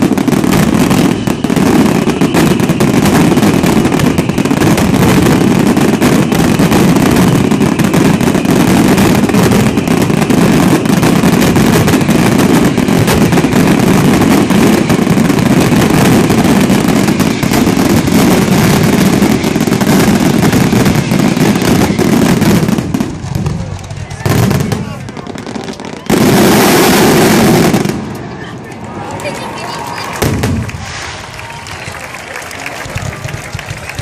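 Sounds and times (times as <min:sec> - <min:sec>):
fireworks barrage: 0:00.0 - 0:34.0.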